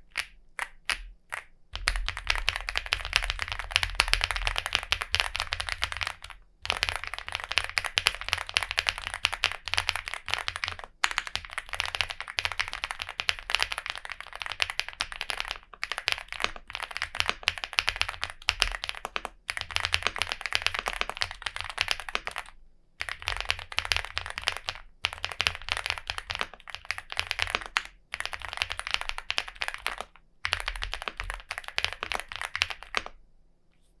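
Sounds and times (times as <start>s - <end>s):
mechanical keyboard typing: 0.1s - 33.1s.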